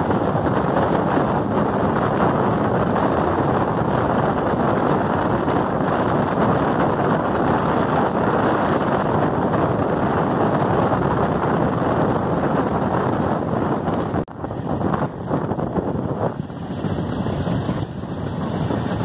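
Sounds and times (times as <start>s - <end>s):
passenger train running rumble: 0.0s - 19.0s
wind rushing over microphone: 0.0s - 19.0s.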